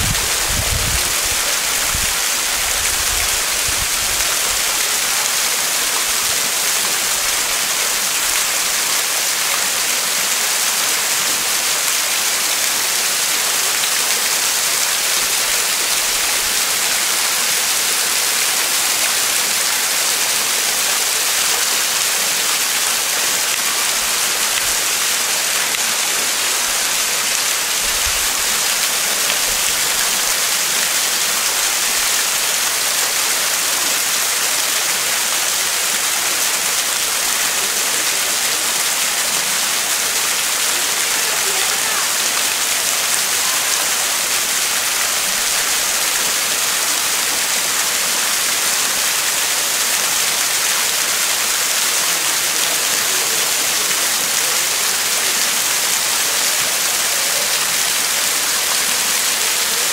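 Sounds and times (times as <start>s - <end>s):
waterfall splashing: 0.0s - 59.9s.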